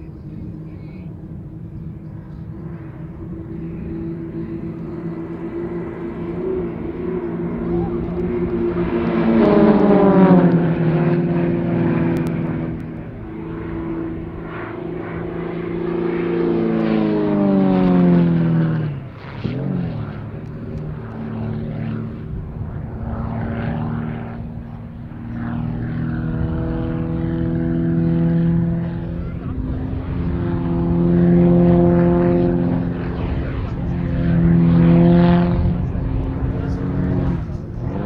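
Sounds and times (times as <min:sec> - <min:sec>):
propeller planes droning overhead: 0:00.0 - 0:38.0.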